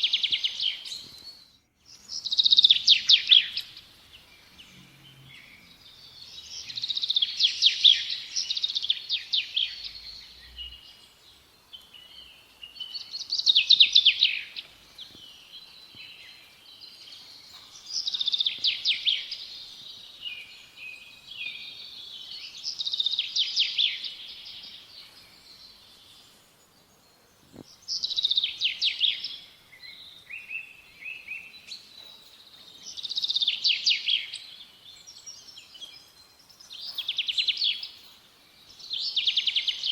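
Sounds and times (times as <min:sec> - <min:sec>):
soft bird chirps: 0:00.0 - 0:39.9.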